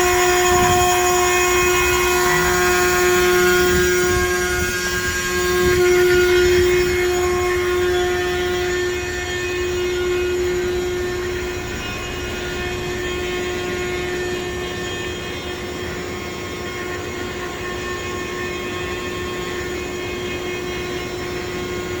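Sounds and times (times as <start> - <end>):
cnc machine whine: 0.0 - 22.0.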